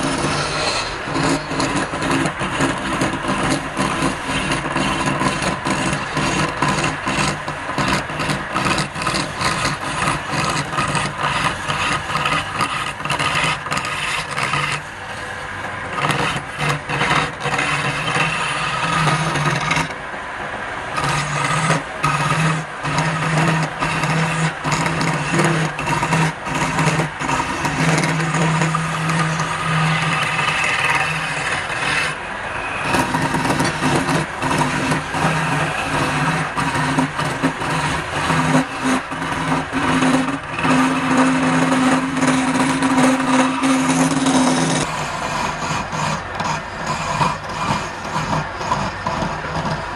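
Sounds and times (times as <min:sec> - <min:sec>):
tool scraping wood: 0:00.0 - 0:20.1, 0:20.8 - 0:49.9
lathe motor hum: 0:00.0 - 0:49.9.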